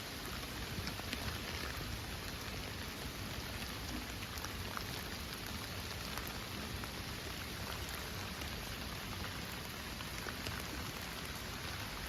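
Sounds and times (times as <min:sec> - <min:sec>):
raindrops ticking on surfaces: 0:00.0 - 0:12.0.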